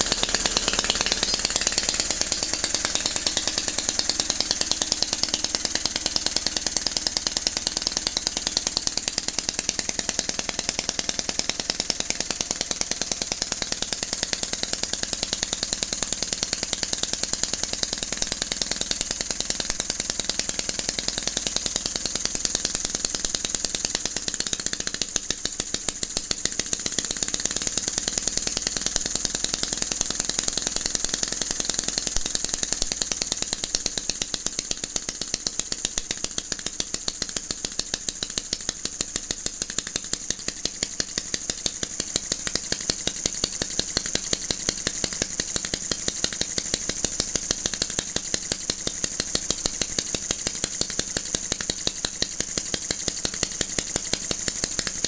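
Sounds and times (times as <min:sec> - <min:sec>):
miniature petrol engine running: 0:00.0 - 0:55.0.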